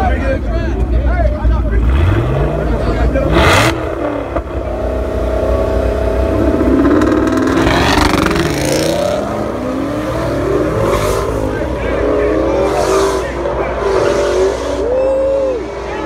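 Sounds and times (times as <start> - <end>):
race car engines accelerating hard: 0.0 - 16.0.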